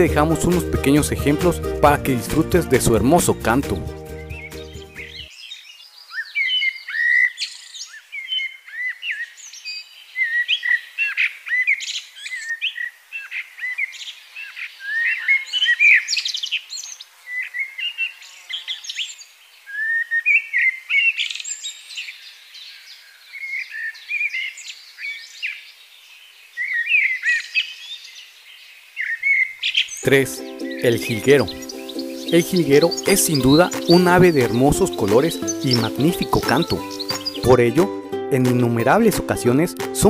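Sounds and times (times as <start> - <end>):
blackbird singing: 0.0 - 40.0.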